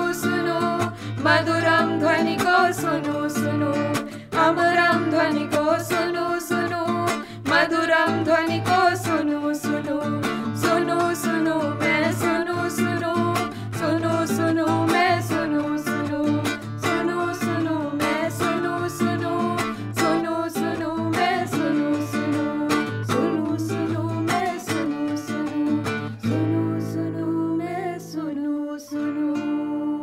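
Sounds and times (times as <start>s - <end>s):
plucked strings: 0.0s - 28.2s.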